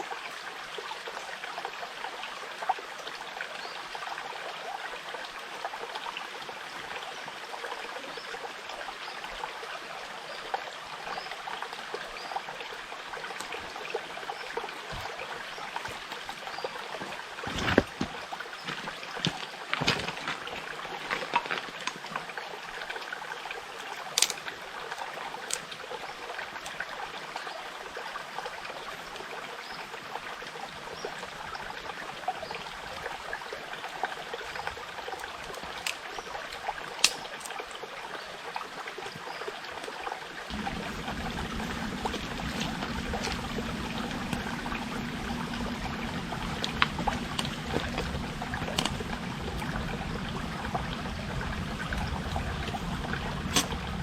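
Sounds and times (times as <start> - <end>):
stream babbling: 0.0 - 54.0.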